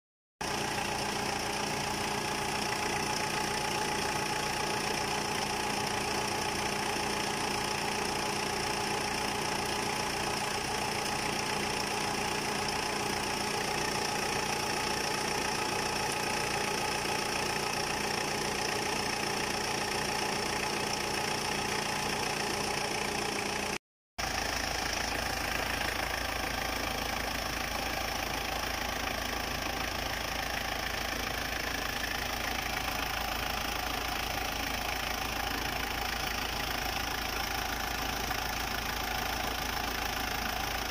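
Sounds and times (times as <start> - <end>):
diesel engine idling: 0.4 - 40.9.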